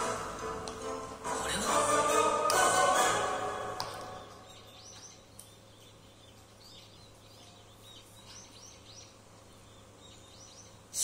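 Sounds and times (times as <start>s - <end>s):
birds chirping: 0.0s - 11.0s
low steady hum: 0.0s - 11.0s.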